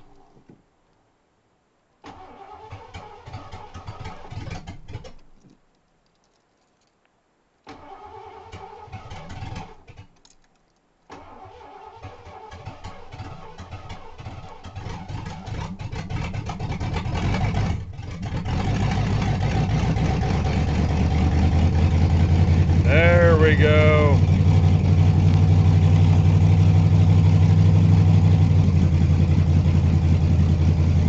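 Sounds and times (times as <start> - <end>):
car engine cranking and sputtering: 2.0 - 5.4, 7.7 - 10.1, 11.1 - 31.0.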